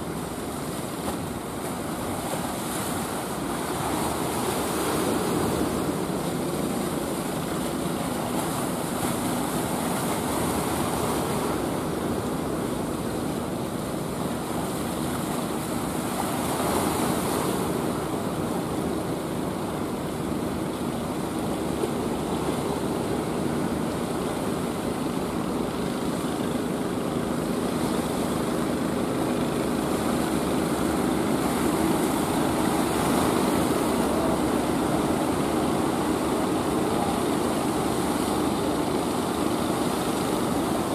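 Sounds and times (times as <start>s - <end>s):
boat engines humming: 0.0s - 40.9s
surf breaking: 0.0s - 40.9s.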